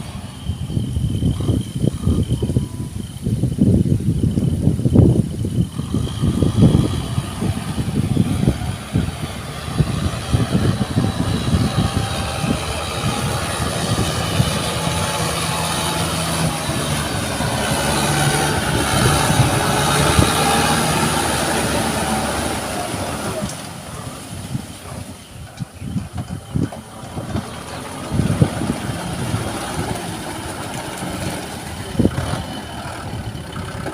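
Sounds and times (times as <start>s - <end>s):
low buffeting: 0.0s - 33.9s
tractor engine running: 0.0s - 33.9s.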